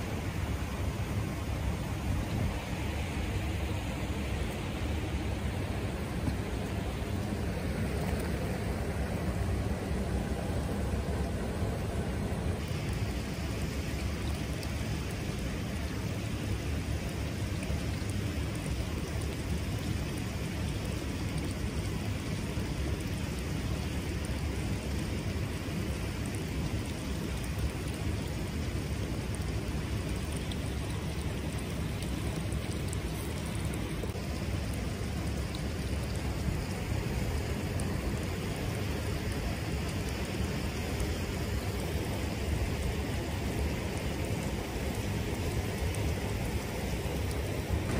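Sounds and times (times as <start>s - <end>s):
flowing water rumble: 0.0s - 47.9s.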